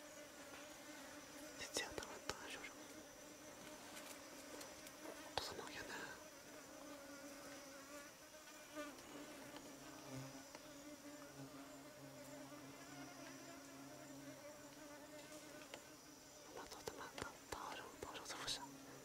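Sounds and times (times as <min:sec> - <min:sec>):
faint insect buzzing: 0:00.0 - 0:19.0.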